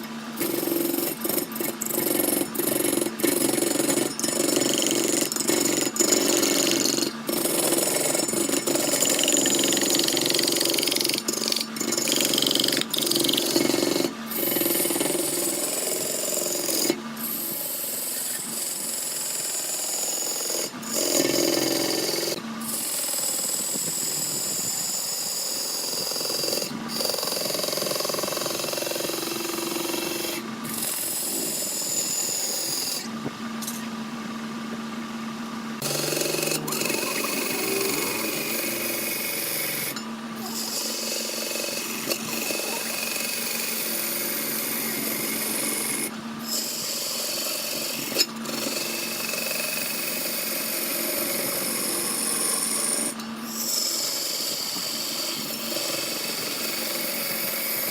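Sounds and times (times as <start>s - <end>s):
lathe motor hum: 0.0s - 57.9s
tool cutting spinning wood: 0.0s - 57.9s.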